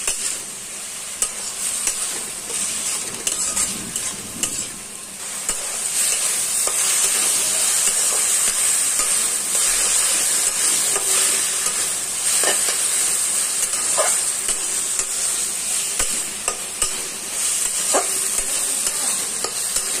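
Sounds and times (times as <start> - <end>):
vegetables sizzling in a wok: 0.0 - 20.0
spatula scraping a pan: 1.2 - 20.0.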